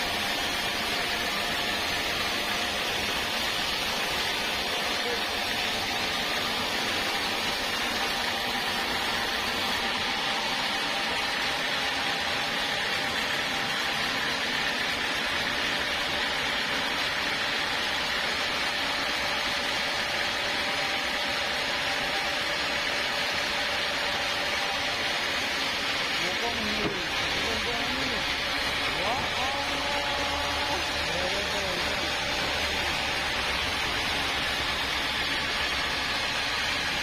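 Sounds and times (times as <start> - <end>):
sawmill machinery hiss: 0.0 - 37.0.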